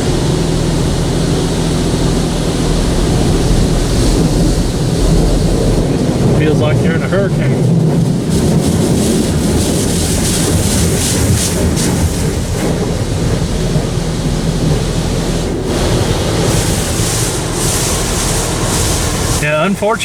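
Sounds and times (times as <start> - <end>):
car wash rushing: 0.0 - 20.0.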